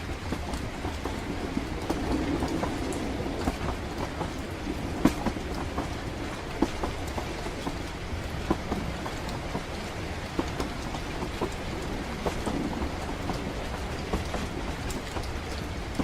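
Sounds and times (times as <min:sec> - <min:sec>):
rain pattering: 0:00.0 - 0:16.0
train rumbling: 0:00.0 - 0:16.0.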